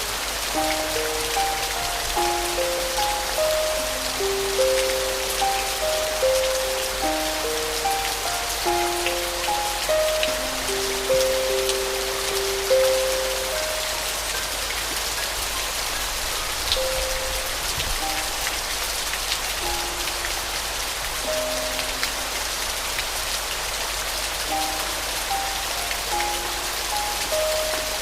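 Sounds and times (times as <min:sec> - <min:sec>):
soft slow piano melody: 0:00.0 - 0:28.0
steady rain falling: 0:00.0 - 0:28.0.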